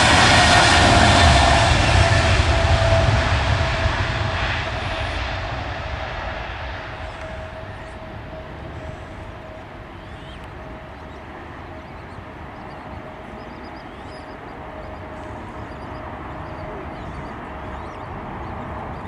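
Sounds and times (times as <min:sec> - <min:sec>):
jet engines roaring at takeoff: 0:00.0 - 0:19.0
steady engine tone: 0:00.0 - 0:19.0.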